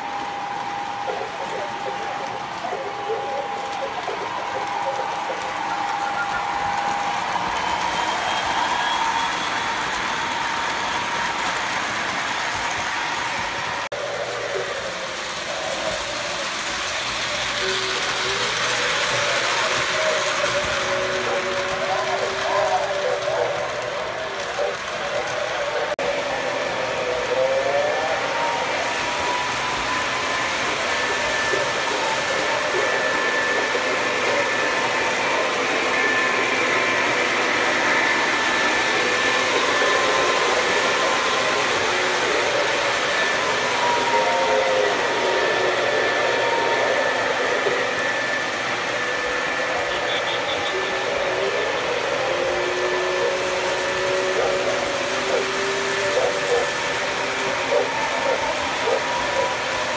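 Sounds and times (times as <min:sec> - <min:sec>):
model trains rushing noise: 0:00.0 - 0:59.9.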